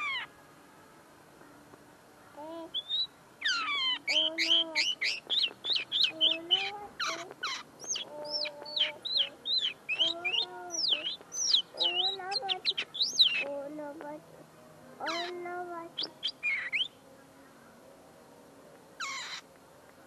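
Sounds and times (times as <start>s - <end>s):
bird twittering song: 0.0s - 0.3s, 1.4s - 14.2s, 14.9s - 17.8s, 19.0s - 20.0s
low drawn-out bird call: 0.0s - 13.6s, 14.9s - 17.8s, 19.0s - 19.5s.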